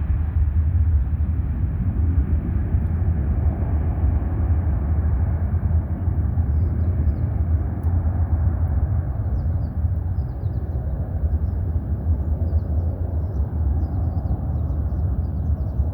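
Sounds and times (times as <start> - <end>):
jet engines rumbling: 0.0 - 15.9.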